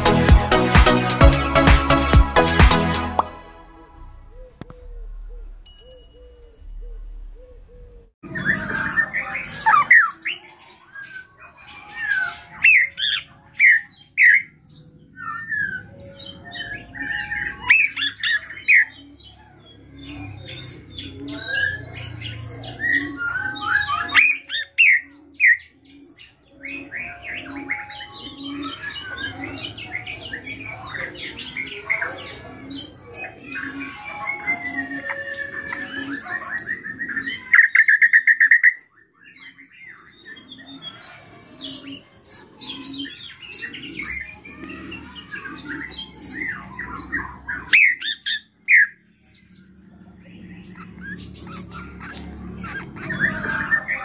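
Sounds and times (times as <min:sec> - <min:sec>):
caged bird singing varied song: 0:03.1 - 0:54.0.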